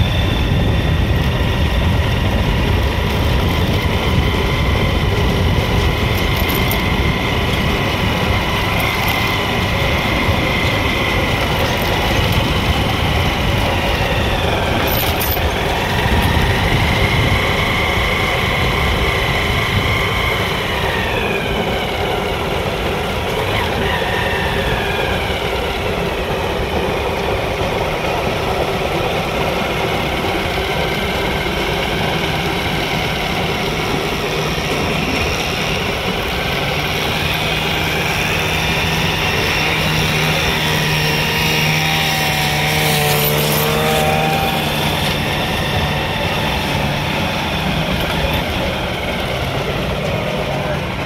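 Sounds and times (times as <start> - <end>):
steam locomotive passing: 0.0 - 51.0.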